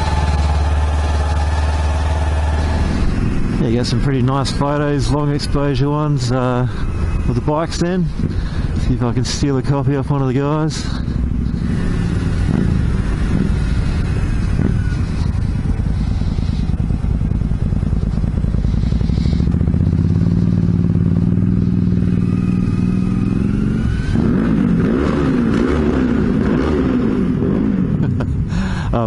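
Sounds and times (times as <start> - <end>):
motorcycle engine revving hard: 0.0 - 28.7
motorcycle engines running: 0.0 - 29.0.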